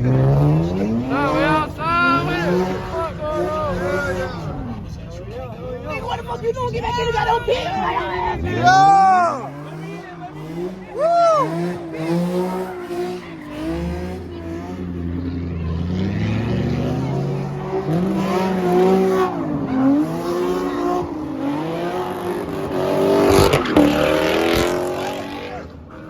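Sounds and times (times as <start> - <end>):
car engine revving hard: 0.0 - 5.0, 7.8 - 26.0
tires squealing: 0.0 - 26.0.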